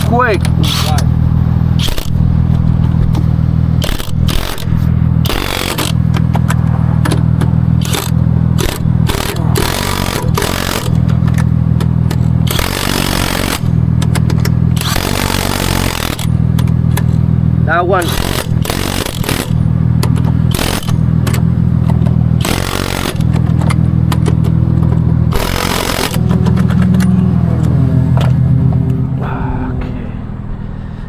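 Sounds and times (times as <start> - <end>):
lug nut rattling bursts: 0.0 - 1.2, 1.8 - 27.7
vehicle engine running: 0.0 - 31.0
metallic clicks and clanks: 1.8 - 17.3, 18.0 - 29.0.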